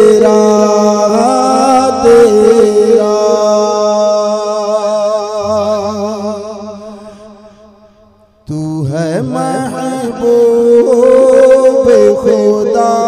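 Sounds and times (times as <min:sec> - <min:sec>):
man singing into a microphone: 0:00.0 - 0:07.6, 0:08.4 - 0:13.0.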